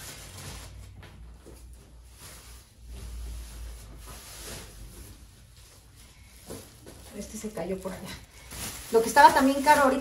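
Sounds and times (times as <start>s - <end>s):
plastic bags handled: 0.0s - 10.0s.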